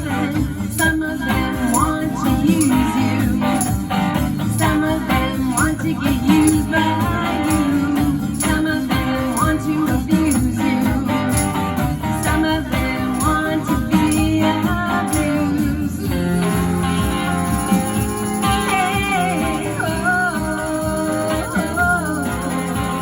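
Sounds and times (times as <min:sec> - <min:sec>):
instrumental band music: 0:00.0 - 0:23.0.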